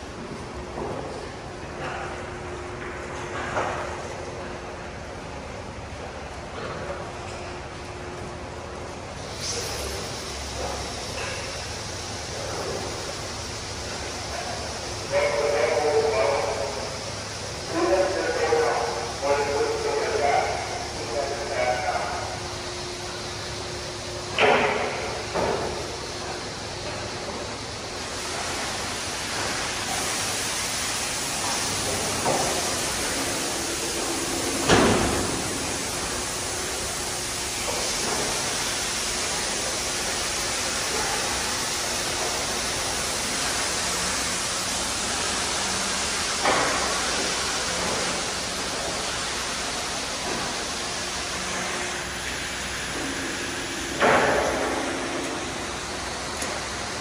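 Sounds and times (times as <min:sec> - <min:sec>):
high-pressure water spray hissing: 0:09.2 - 0:57.0.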